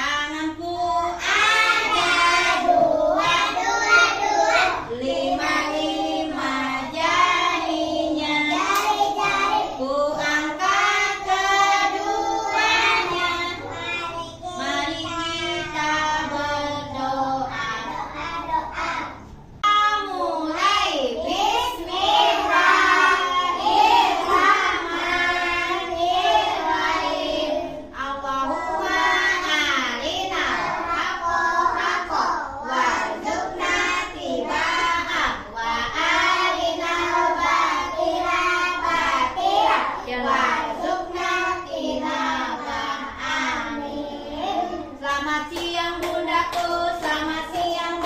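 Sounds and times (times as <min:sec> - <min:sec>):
children singing together: 0:00.0 - 0:48.0.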